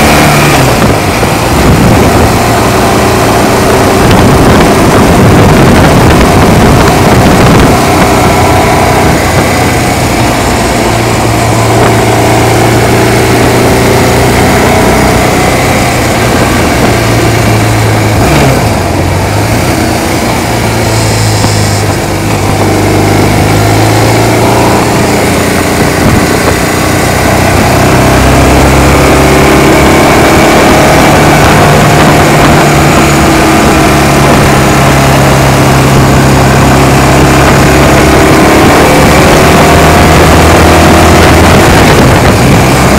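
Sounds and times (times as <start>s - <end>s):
motorcycle engine running: 0.0s - 42.9s
wind noise: 0.0s - 42.9s.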